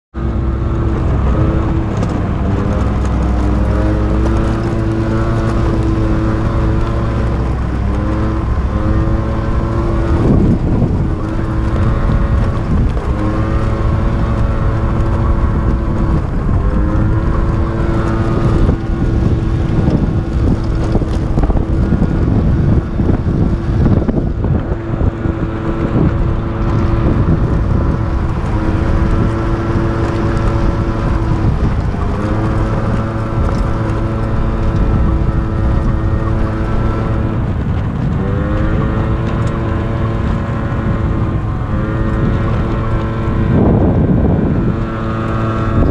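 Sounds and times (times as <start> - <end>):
wind on microphone: 0.1 - 45.9
small motorbike engine: 0.2 - 45.9.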